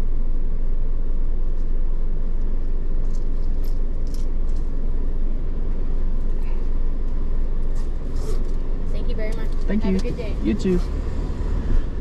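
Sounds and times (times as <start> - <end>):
car rumble from inside: 0.0 - 12.0.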